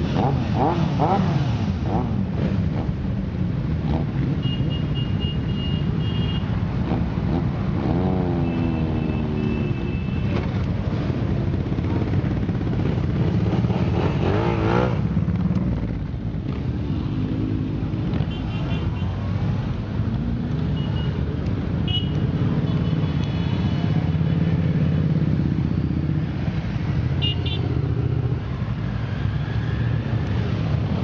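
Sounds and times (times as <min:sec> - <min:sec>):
motorcycle engines rumbling: 0:00.0 - 0:31.0.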